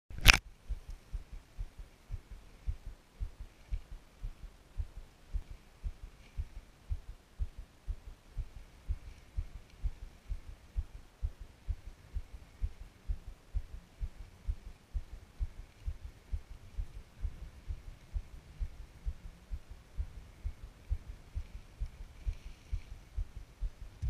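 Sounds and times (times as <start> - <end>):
low muffled thumps: 0.6 - 24.0.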